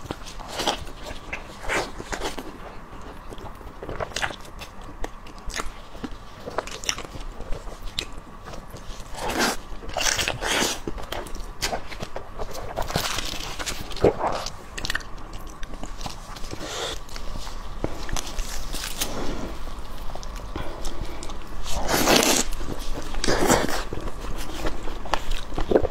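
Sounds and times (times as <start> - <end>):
biting and chewing: 0.0 - 25.9.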